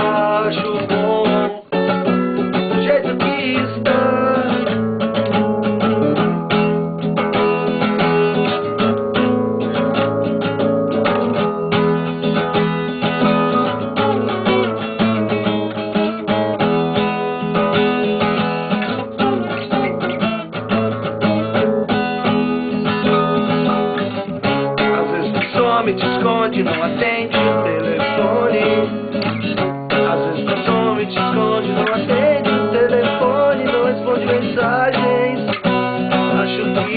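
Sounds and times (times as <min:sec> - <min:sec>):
band music with strummed guitar: 0:00.0 - 0:36.9.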